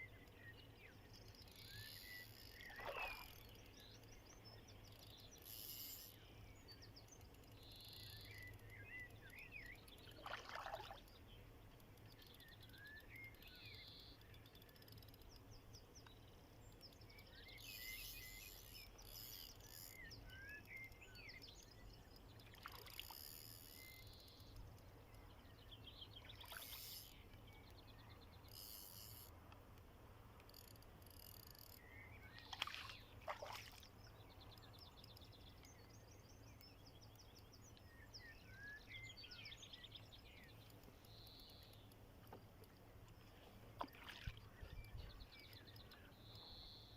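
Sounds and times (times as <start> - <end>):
small birds chirping: 0.0 - 29.8, 30.5 - 46.9.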